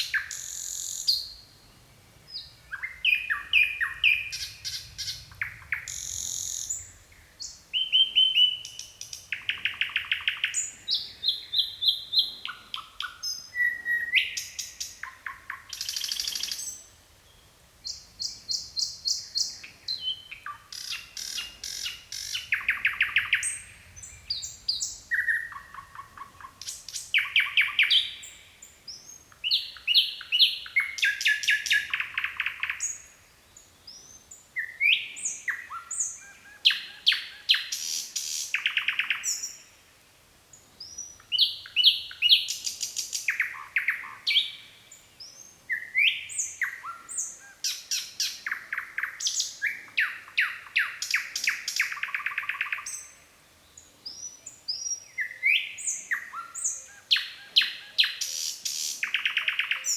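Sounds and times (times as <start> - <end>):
nightingale singing trills: 0.0 - 39.8, 40.5 - 59.9.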